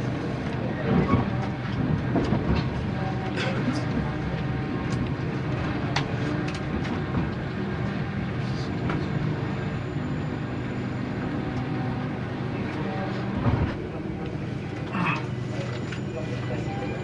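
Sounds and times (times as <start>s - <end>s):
train cabin hum: 0.0s - 17.0s.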